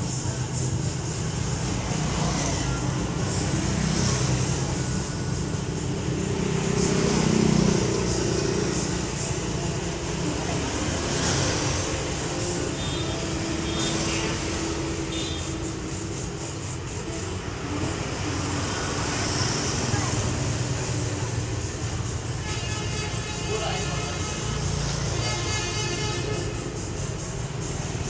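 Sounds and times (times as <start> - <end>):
indistinct voices talking: 0.0 - 28.0
road traffic noise: 0.0 - 28.0.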